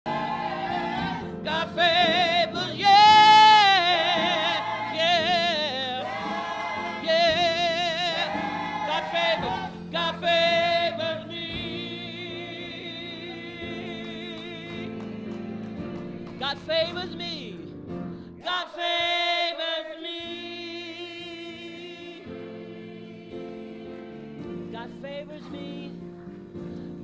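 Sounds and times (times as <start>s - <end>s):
gospel choir singing: 0.0s - 17.2s, 18.4s - 26.0s.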